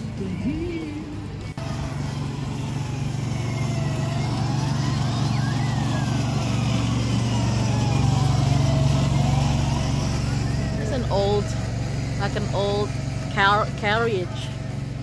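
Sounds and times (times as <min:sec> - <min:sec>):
small vehicle engine humming: 0:00.0 - 0:15.0
thin whine: 0:00.0 - 0:15.0.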